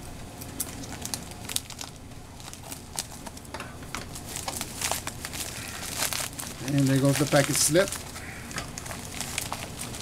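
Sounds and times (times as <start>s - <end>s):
plastic bag crinkling: 0.4s - 10.0s.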